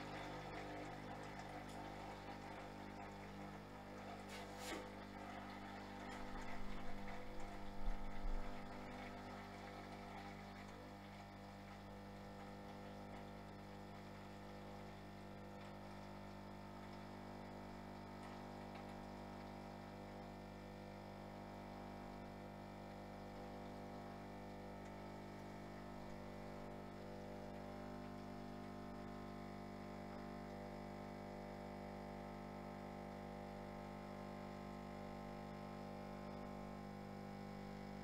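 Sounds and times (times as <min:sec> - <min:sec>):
espresso machine pump humming: 0:00.0 - 0:38.0.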